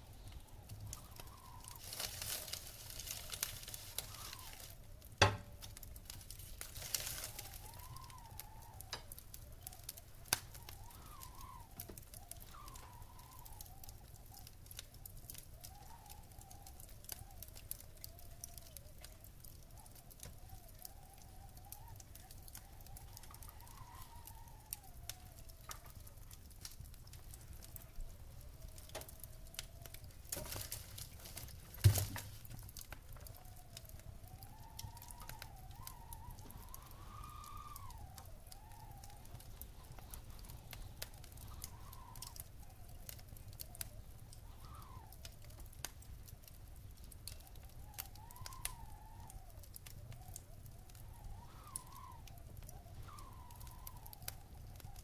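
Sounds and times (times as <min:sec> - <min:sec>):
faint whistling tone: 0:00.0 - 0:26.5, 0:27.1 - 0:55.0
wood fire crackling: 0:00.0 - 0:55.0.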